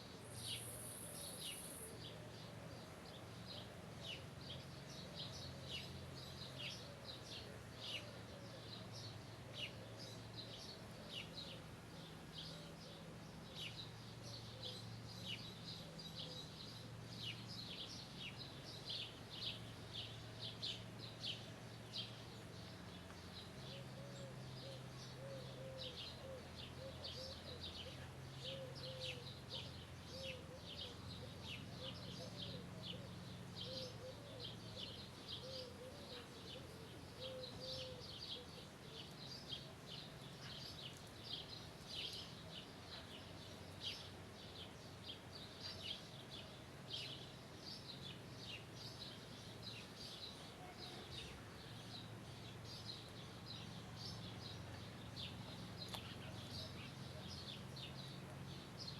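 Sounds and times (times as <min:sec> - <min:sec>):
birds chirping: 0:08.8 - 0:58.9.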